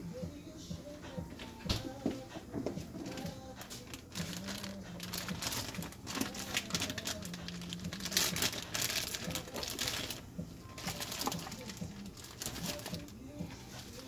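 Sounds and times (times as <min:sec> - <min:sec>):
crinkling and rustling: 0:01.4 - 0:14.0.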